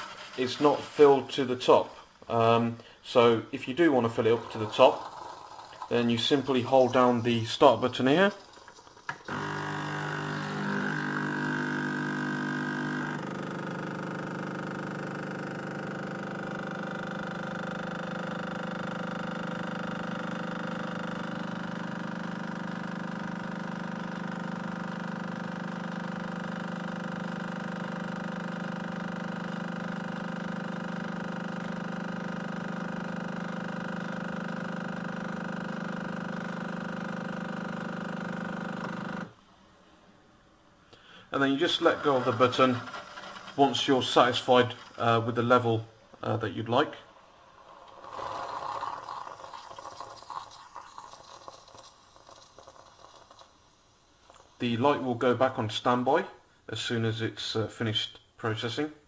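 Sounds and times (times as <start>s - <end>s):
coffee machine pump humming: 0.0s - 39.4s, 40.9s - 55.5s.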